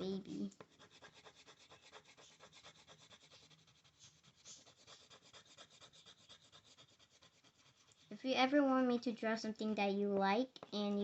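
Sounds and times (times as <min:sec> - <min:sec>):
colouring strokes on paper: 0:00.0 - 0:09.2.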